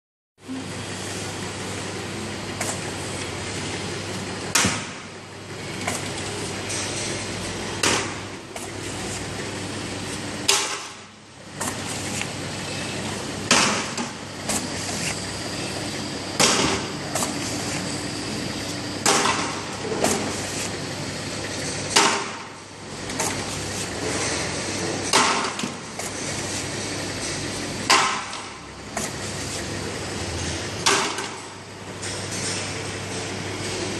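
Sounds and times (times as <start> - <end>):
labeling machine hum: 0.4 - 33.9.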